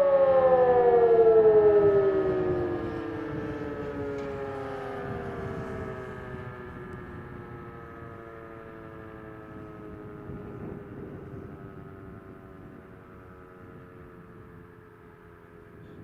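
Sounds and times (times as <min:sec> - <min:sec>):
civil defence sirens wailing: 0:00.0 - 0:16.0.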